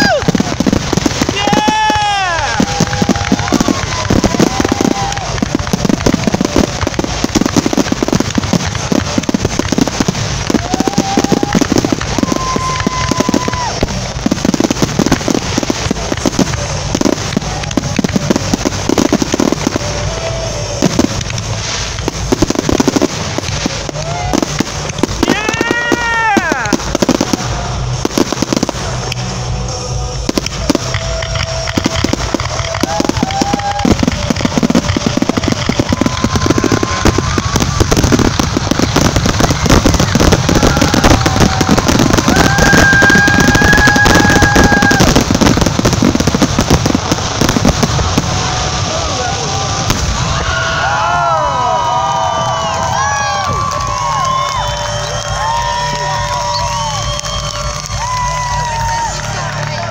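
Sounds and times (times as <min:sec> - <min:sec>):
fireworks bursts and crackling: 0:00.0 - 0:59.9
fireworks whistling: 0:00.0 - 0:59.9.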